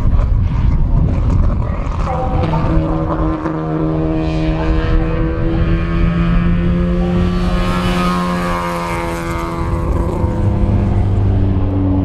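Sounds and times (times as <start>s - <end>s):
low-pitched engine: 0.0s - 12.0s
racing car engine passing: 1.8s - 12.0s.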